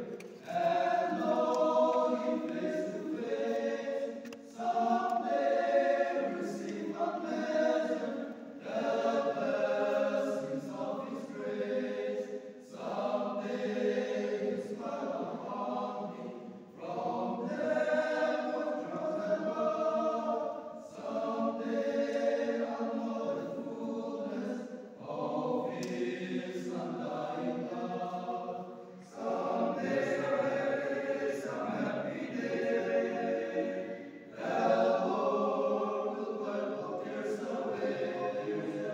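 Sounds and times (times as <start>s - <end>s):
men's choir singing: 0.0s - 38.9s.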